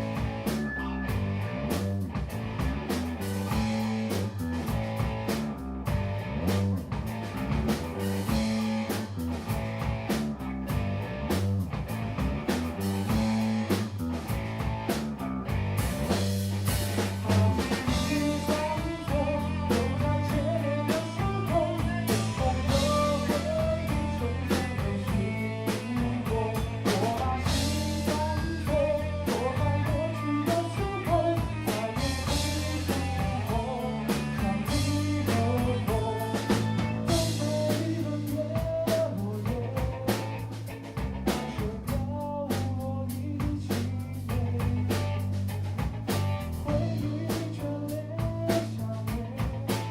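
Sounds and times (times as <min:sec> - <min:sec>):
bass: 0:00.0 - 0:49.9
drum kit: 0:00.0 - 0:49.9
guitar: 0:00.0 - 0:49.9.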